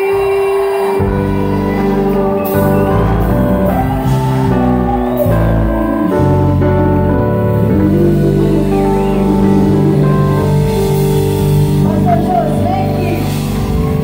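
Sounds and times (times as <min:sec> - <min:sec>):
bass: 0:00.0 - 0:14.0
guitars: 0:00.0 - 0:14.0
sustained keyboard chords: 0:00.0 - 0:14.0.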